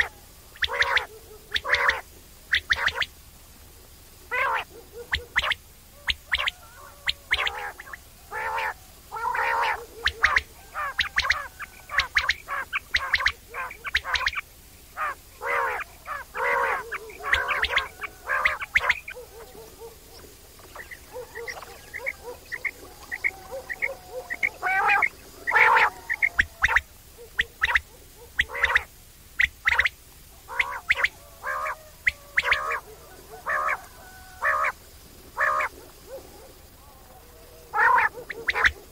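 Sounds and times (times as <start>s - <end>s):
quail calling: 0.0s - 3.2s, 4.3s - 38.9s.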